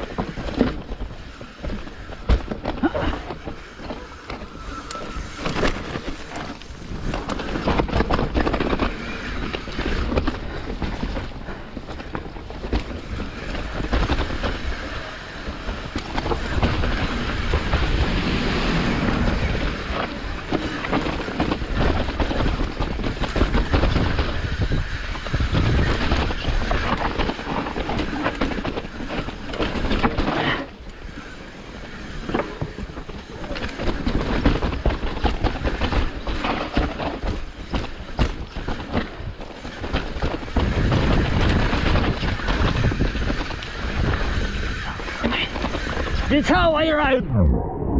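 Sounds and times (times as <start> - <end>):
bike chain and frame rattling: 0.0 - 46.3
tyres rumbling over dirt and rocks: 0.0 - 47.9
wind buffeting microphone: 0.0 - 47.9.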